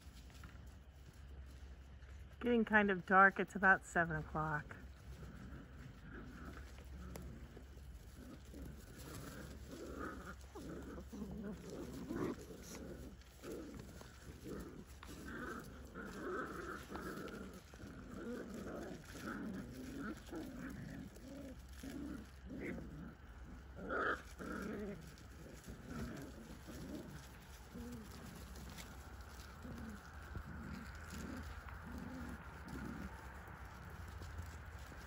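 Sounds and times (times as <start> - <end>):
puppies growling and calling: 4.8 - 35.0.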